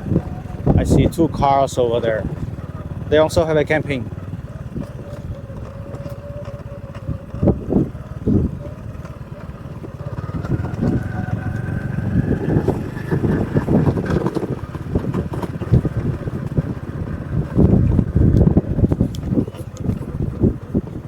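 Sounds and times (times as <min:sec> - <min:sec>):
small motorbike engine rumble: 0:00.0 - 0:21.0.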